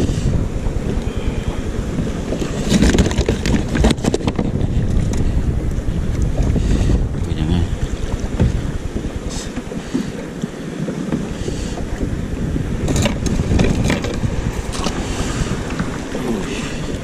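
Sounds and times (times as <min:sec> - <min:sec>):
water slapping kayak hull: 0:00.0 - 0:17.0
wind buffeting microphone: 0:00.0 - 0:17.0.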